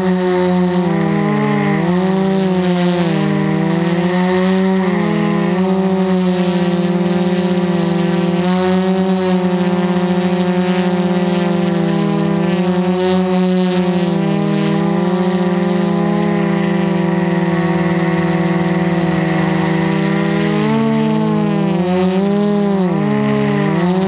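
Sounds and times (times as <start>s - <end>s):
quadcopter propellers buzzing: 0.0s - 24.0s.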